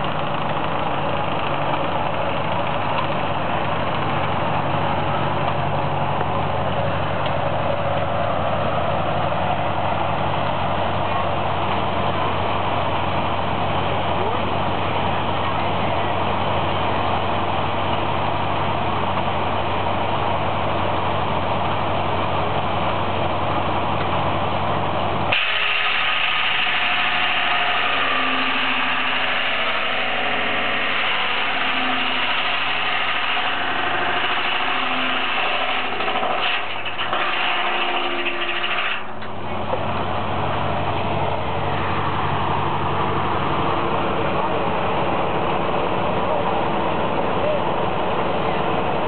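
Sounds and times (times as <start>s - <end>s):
mill running with low hum: 0.0s - 49.0s.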